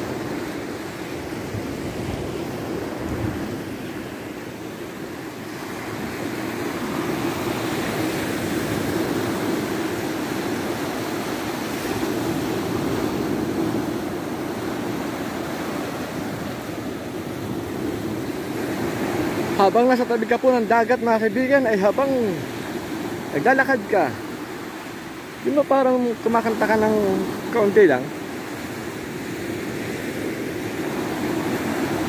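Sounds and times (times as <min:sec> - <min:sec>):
waves washing up a sandy beach: 0:00.0 - 0:32.0.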